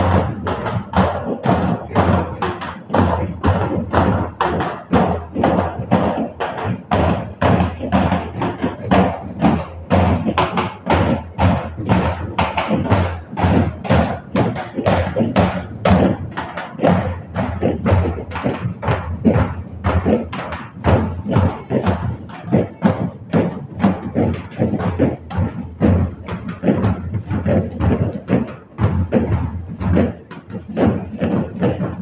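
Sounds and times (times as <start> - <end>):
procession drums beating: 0.0 - 32.0.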